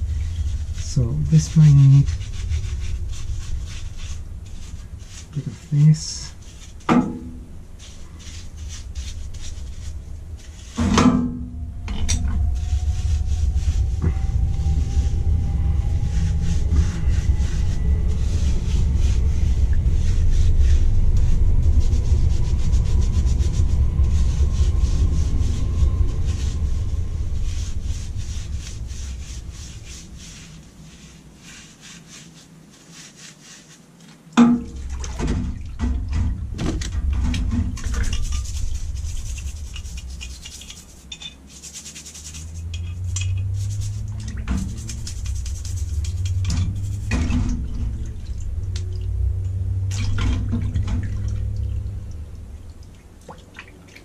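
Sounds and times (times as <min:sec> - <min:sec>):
small brush scrubbing metal: 0:00.0 - 0:11.1, 0:11.9 - 0:34.9, 0:37.1 - 0:49.6
low machine rumble: 0:00.0 - 0:31.4, 0:34.6 - 0:40.9, 0:42.2 - 0:53.9.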